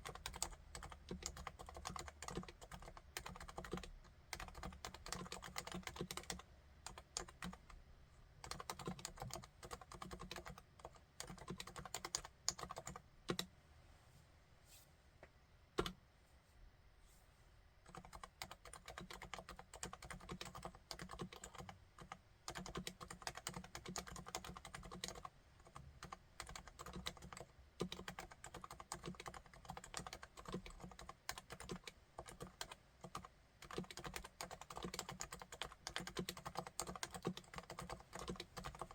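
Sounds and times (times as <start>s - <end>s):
soft keyboard typing: 0.0s - 7.8s, 8.4s - 13.5s, 15.8s - 16.0s, 17.8s - 38.9s.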